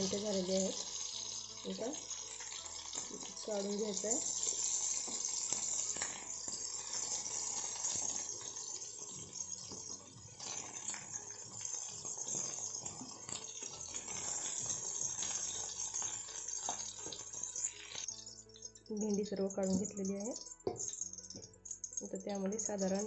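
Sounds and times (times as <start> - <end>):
okra sizzling in hot oil: 0.0 - 23.0.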